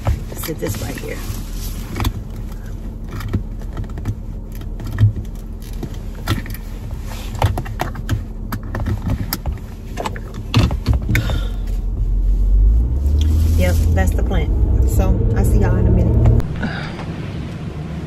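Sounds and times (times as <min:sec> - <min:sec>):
low car hum: 0:00.0 - 0:18.0.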